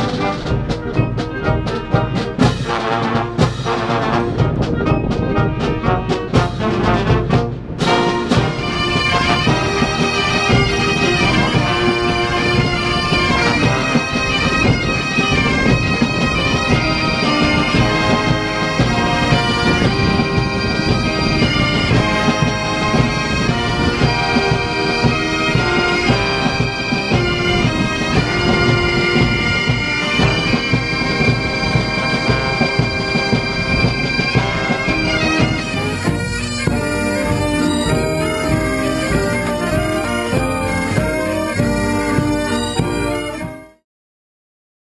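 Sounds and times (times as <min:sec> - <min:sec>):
brass band instruments: 0:00.0 - 0:43.8
drum strokes: 0:00.0 - 0:43.8
bagpipes playing: 0:07.8 - 0:43.8.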